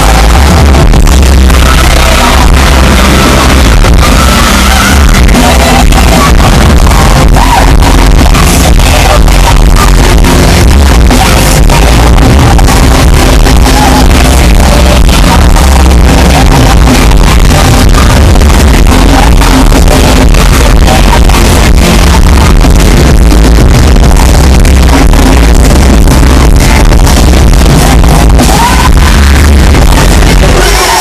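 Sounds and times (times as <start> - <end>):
heavy bass: 0.0 - 31.0.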